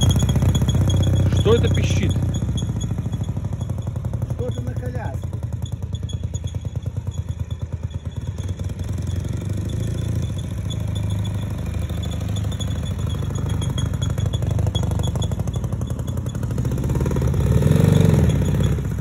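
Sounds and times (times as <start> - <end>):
high squeak from sidecar: 0.0 - 16.7
motorcycle engine running: 0.0 - 19.0.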